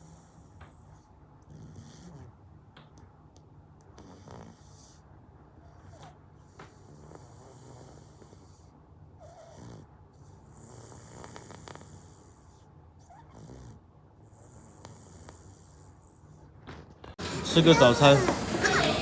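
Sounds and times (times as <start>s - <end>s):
toddler snoring: 0.0s - 2.4s, 4.0s - 16.5s, 17.2s - 19.0s.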